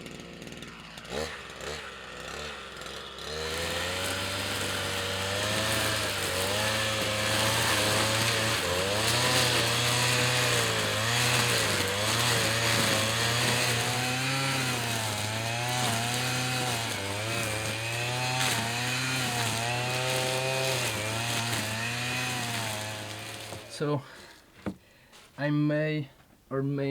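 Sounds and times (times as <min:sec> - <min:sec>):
power tool engine under load: 0:00.0 - 0:24.8.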